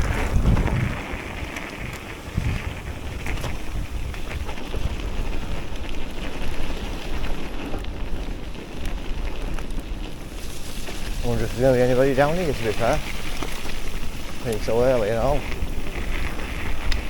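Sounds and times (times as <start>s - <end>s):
bike riding rumble: 0.0s - 17.0s
tyre crackles and bike rattles: 0.0s - 17.0s
wind buffeting microphone: 0.0s - 17.0s.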